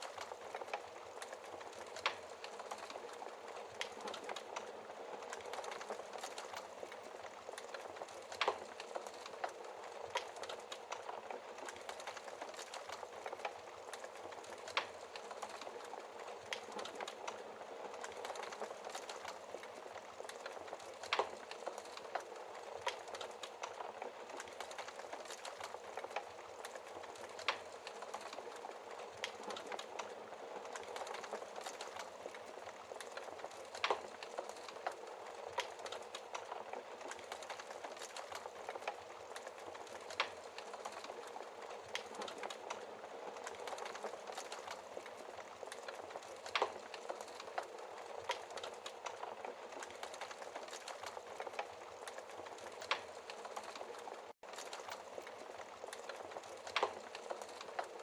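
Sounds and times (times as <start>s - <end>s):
logs crackling and hissing: 0.0s - 58.0s.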